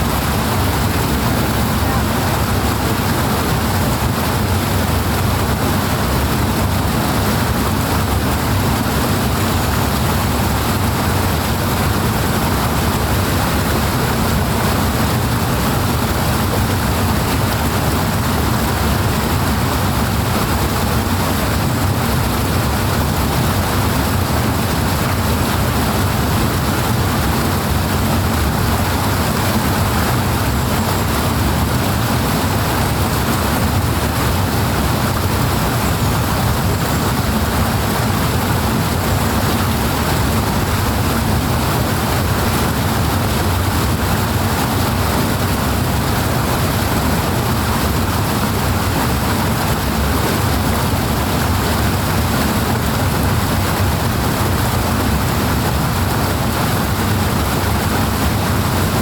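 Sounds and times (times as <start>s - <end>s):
powerful rushing water: 0.0s - 59.0s.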